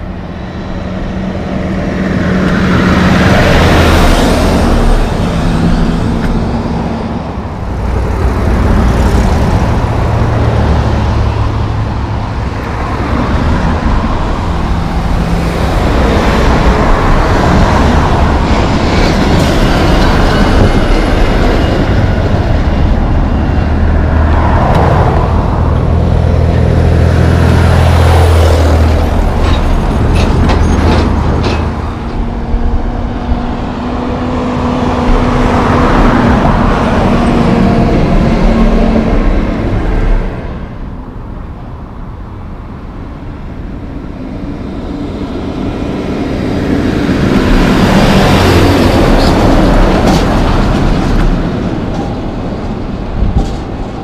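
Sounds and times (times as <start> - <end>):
diesel trucks passing: 0.0 - 54.0.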